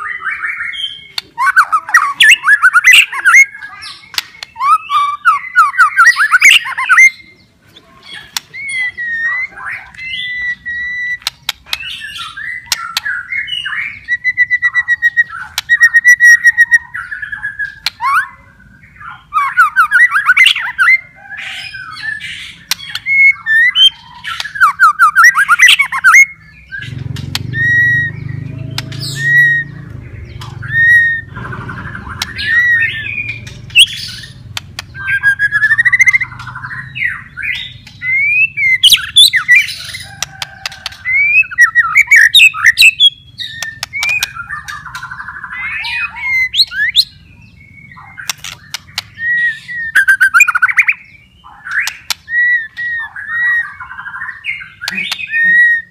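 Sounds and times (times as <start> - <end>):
bird singing whistled phrases: 0.0 - 7.4, 8.2 - 21.0, 21.6 - 29.8, 30.5 - 34.4, 35.0 - 55.9
sharp clicking bird notes: 0.8 - 7.1, 8.1 - 9.0, 9.8 - 14.2, 14.8 - 16.8, 17.6 - 18.2, 22.3 - 47.2, 47.9 - 55.9.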